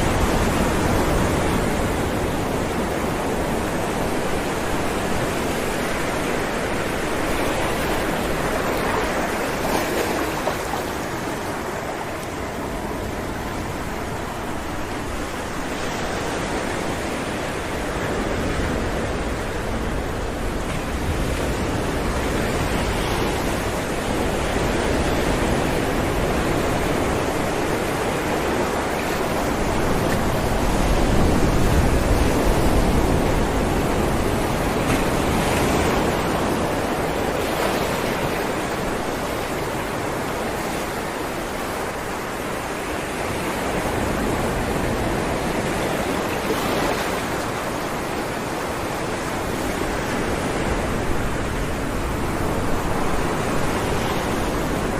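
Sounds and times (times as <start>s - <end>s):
ocean waves breaking on rocks: 0.0s - 54.9s.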